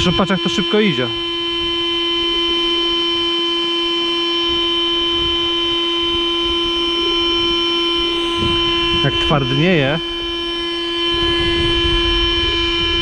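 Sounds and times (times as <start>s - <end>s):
electric inflator humming and whining: 0.0s - 13.0s.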